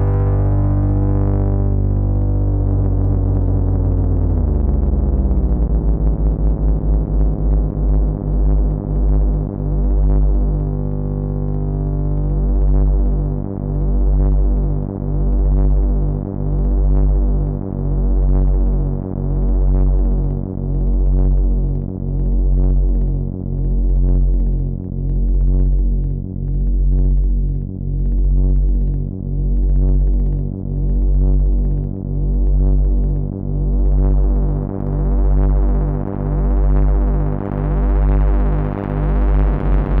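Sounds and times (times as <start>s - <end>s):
pulsing synthesizer bass drone: 0.0s - 40.0s.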